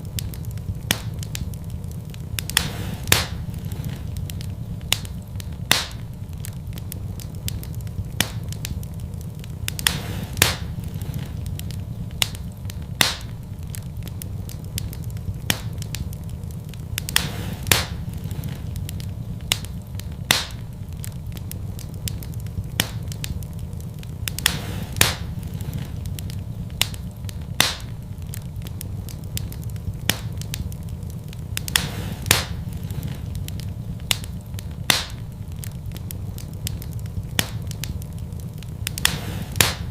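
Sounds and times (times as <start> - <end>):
low steady rumble: 0.0 - 39.9
wood fire crackling and popping: 0.0 - 39.9.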